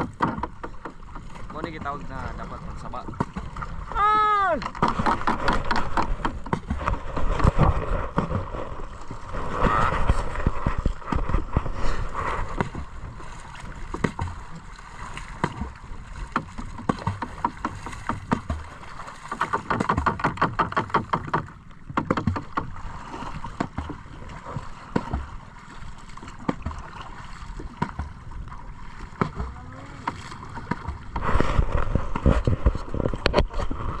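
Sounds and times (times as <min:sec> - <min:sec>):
water splashing against canoe: 0:00.0 - 0:34.0.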